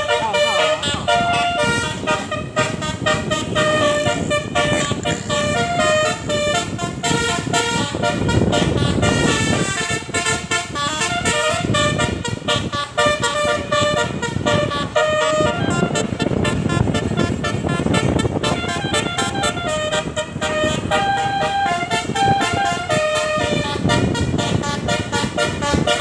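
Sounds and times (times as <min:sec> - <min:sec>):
multi-tone air horn tune: 0:00.0 - 0:26.0.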